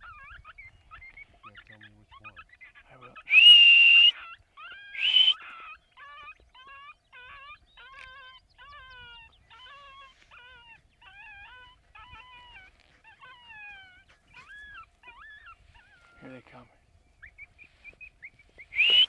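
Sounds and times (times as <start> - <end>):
coyote yips and whimpers: 0.0 - 19.0.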